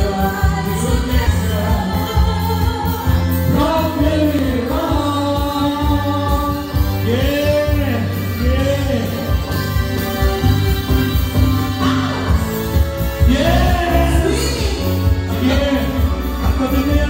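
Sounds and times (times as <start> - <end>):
song with singing: 0.0 - 17.0
steady bass line: 0.0 - 17.0.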